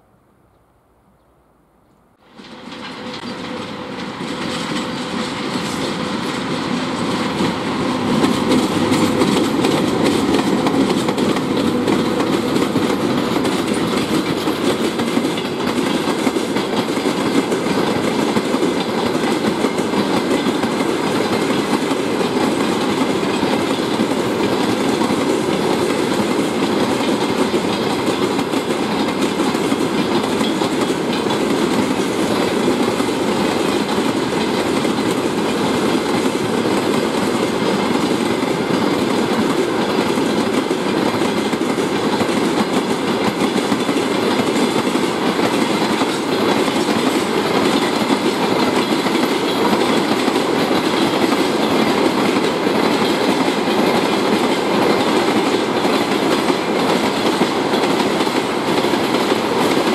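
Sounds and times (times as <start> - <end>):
freight train wheels rolling: 2.2 - 59.9.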